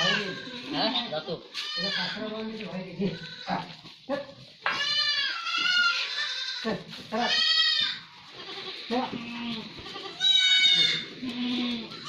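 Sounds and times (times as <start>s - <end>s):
goats bleating: 0.0s - 12.0s.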